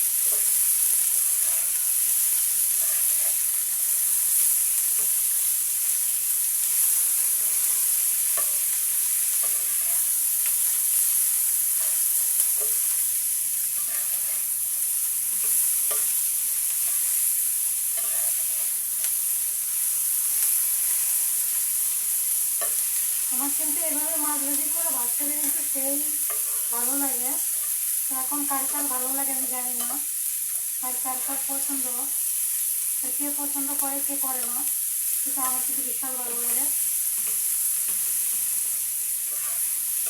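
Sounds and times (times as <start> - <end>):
food sizzling in frying pan: 0.0 - 40.0.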